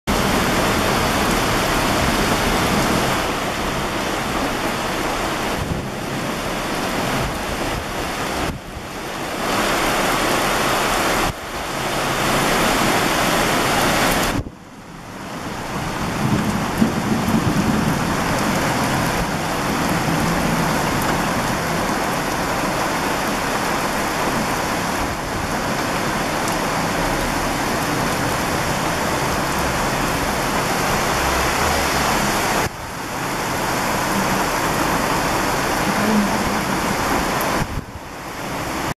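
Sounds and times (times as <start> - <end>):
heavy rain hissing on pavement: 0.1 - 38.9.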